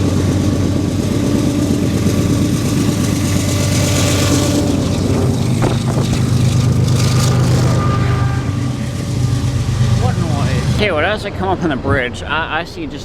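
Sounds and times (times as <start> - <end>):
train rolling hiss: 0.0 - 11.6
locomotive engine drone: 0.0 - 13.0.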